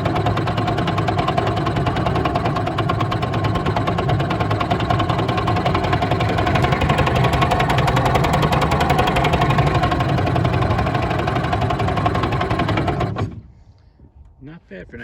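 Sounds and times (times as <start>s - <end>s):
outboard motor running: 0.0s - 13.6s.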